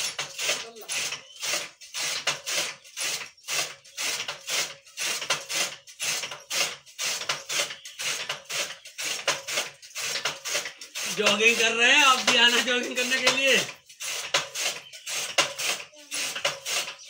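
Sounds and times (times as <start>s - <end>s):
chaff cutter chopping stalks: 0.0s - 17.0s.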